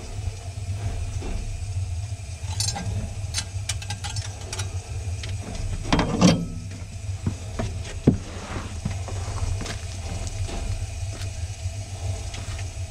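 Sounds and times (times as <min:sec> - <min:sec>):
mechanical rattles and knocks: 0:00.0 - 0:12.9
steam locomotive rumbling: 0:00.0 - 0:12.9.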